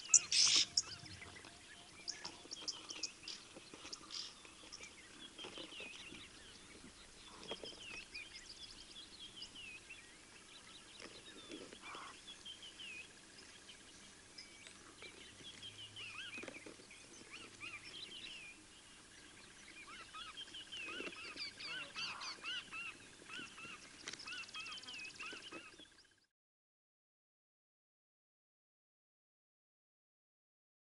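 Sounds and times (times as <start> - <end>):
birds chirping and calling: 0.0 - 26.2.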